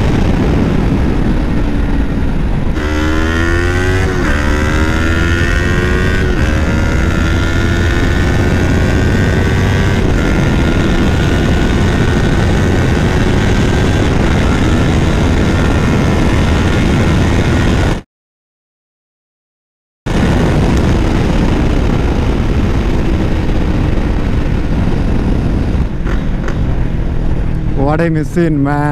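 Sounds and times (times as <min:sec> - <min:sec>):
motorcycle engine revving: 0:00.0 - 0:18.0, 0:20.1 - 0:28.9
wind rumble: 0:00.0 - 0:18.0, 0:20.1 - 0:28.9.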